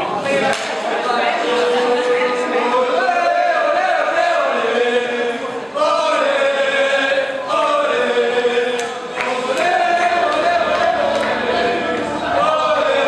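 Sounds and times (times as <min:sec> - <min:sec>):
crowd chanting in unison: 0:00.1 - 0:13.0.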